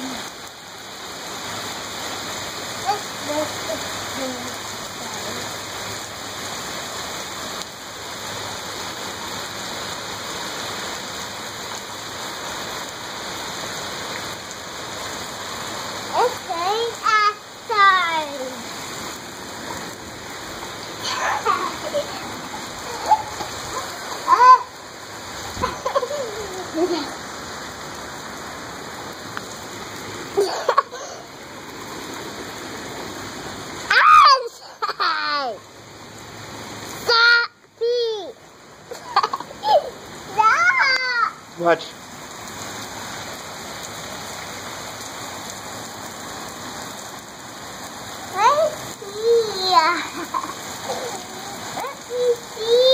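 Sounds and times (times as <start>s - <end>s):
rain on concrete: 0.0s - 52.9s.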